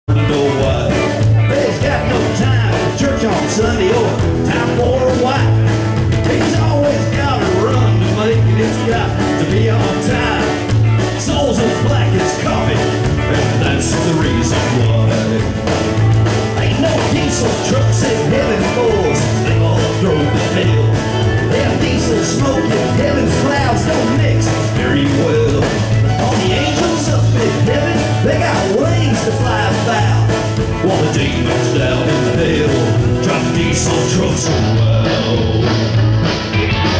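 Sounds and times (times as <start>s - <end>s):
live band playing: 0.0s - 36.9s
upright bass line: 0.0s - 36.9s
strummed acoustic guitar: 0.1s - 36.9s.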